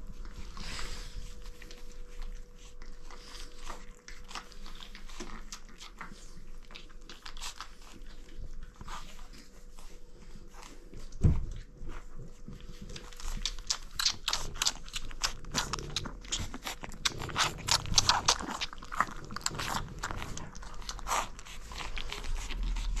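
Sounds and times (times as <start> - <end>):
puppies chewing: 0.0 - 23.0.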